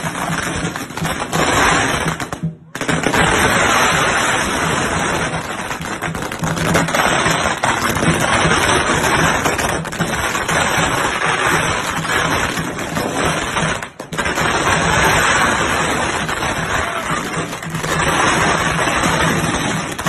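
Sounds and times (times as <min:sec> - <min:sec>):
firecrackers rattling: 0:00.0 - 0:20.0.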